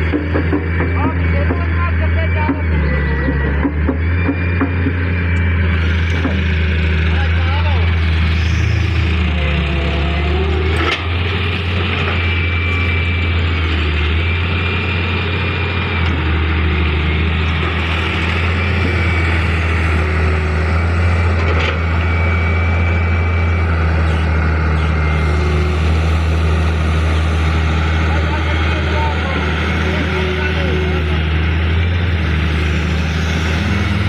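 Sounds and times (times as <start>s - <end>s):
diesel engine running: 0.0s - 34.0s
faint high whine: 0.6s - 10.8s, 11.4s - 32.0s.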